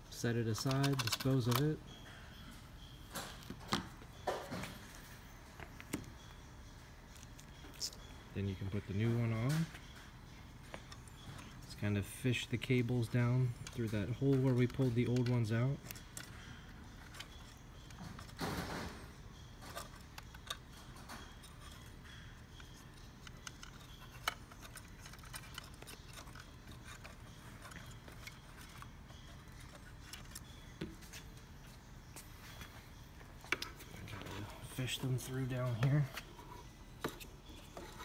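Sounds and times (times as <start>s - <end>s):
cables and plastic parts rustling: 0.0s - 38.0s.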